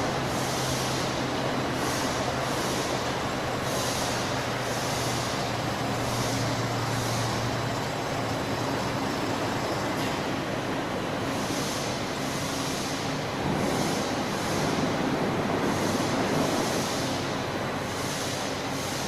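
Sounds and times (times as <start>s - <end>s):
air blower noise: 0.0s - 19.0s.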